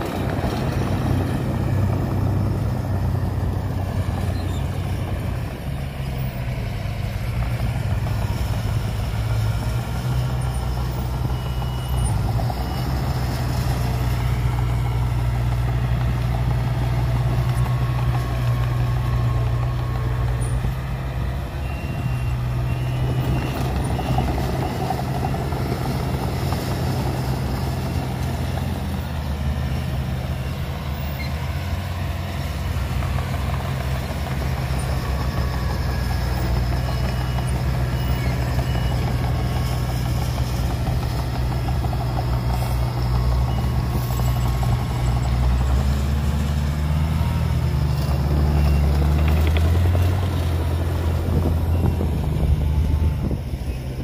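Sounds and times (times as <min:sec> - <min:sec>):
bulldozer diesel engines: 0:00.0 - 0:54.0.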